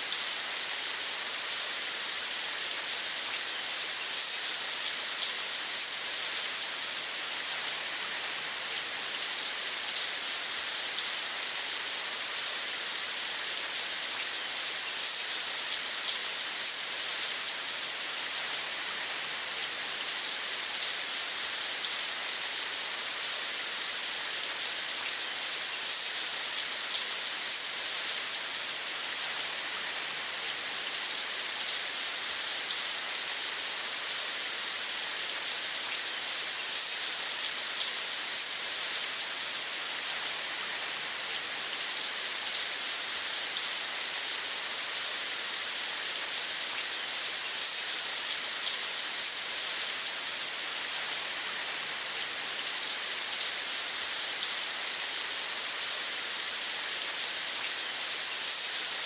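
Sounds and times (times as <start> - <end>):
rain falling on a surface: 0.0 - 59.0.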